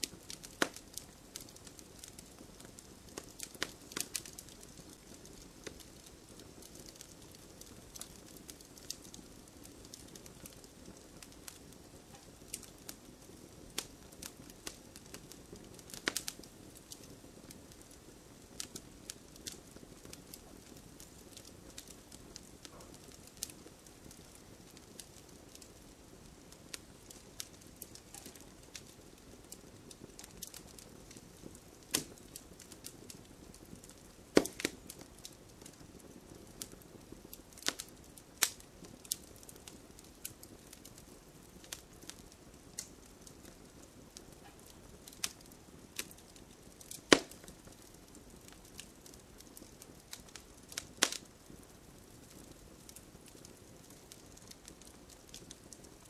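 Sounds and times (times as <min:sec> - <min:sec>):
fireplace fire crackling: 0:00.0 - 0:56.0.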